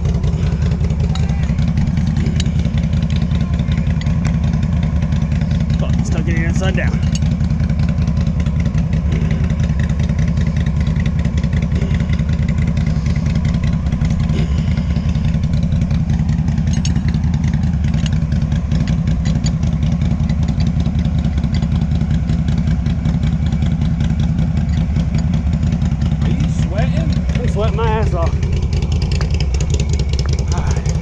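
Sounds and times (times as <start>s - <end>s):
atv engine idling: 0.0s - 31.0s.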